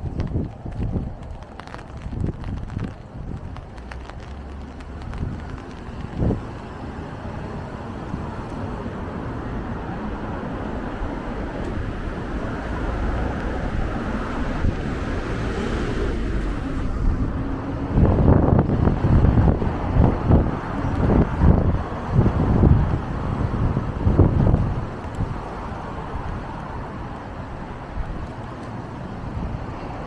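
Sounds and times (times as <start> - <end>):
vehicle passing on wet road: 0.0 - 30.0
wind buffeting microphone: 0.0 - 30.0.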